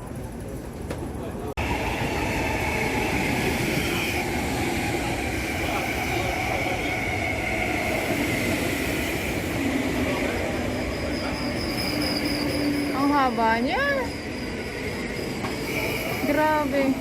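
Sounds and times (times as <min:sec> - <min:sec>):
train running with whine: 0:01.6 - 0:17.0.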